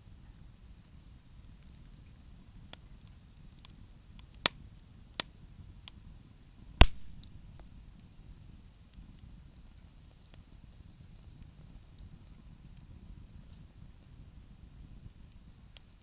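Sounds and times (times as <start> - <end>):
faint fire ticks: 0.1 - 16.0
wood fire pops: 1.3 - 16.0.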